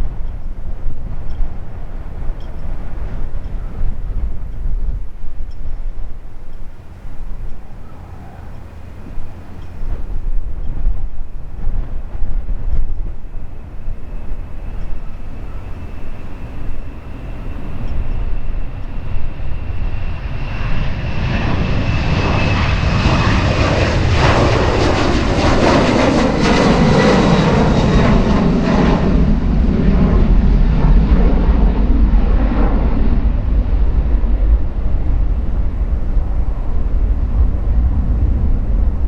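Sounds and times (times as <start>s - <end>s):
airliner jet engines: 0.0s - 39.0s
wind buffeting microphone: 0.0s - 39.0s.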